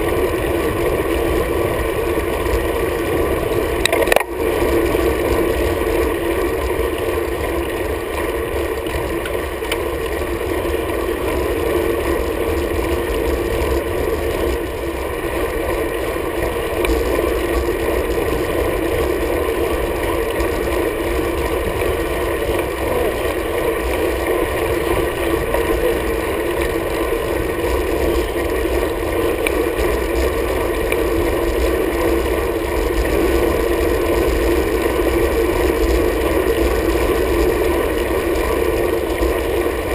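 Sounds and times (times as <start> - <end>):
bicycle road noise: 0.0 - 39.9.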